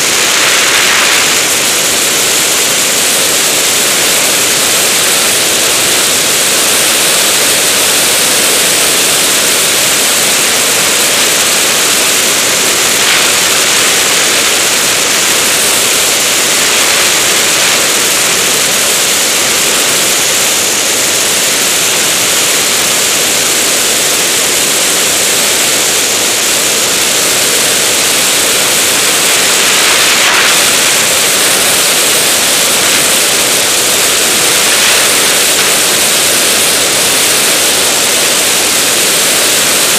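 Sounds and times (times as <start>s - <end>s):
wind rushing over microphone: 0.0s - 23.0s, 26.8s - 39.9s.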